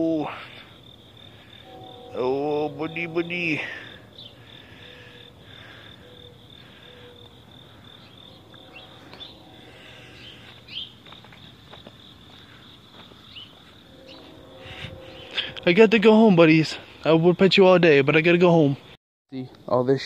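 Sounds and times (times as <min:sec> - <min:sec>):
insects trilling: 0:00.0 - 0:18.9.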